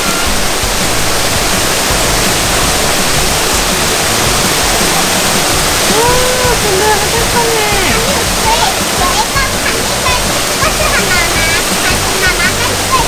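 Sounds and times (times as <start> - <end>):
falling water rushing: 0.0 - 13.0.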